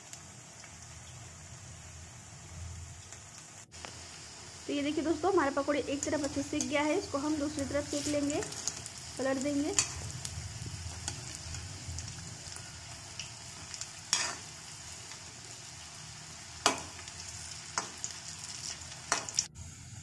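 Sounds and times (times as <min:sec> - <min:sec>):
fritters sizzling in hot oil: 0:00.0 - 0:19.5.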